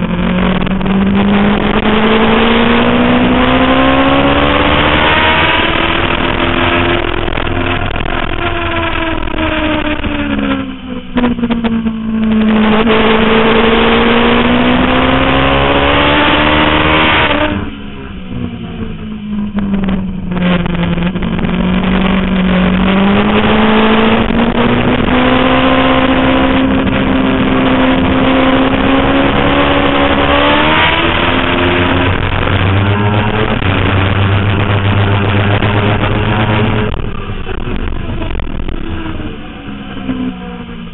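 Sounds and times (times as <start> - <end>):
sport bike engine revving: 0.0 - 18.2, 19.8 - 40.9.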